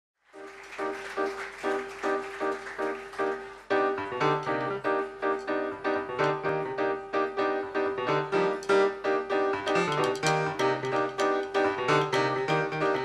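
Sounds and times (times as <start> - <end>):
piano chords: 0.3 - 13.0.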